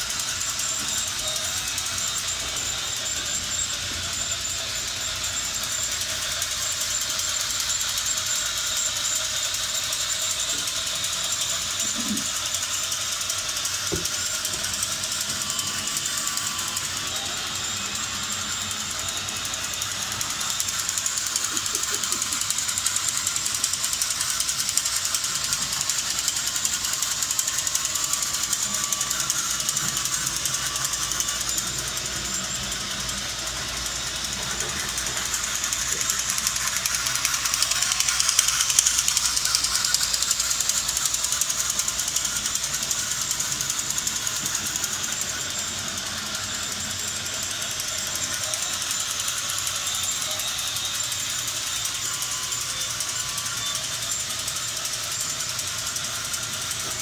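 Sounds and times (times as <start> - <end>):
machinery clattering with hiss: 0.0 - 57.0.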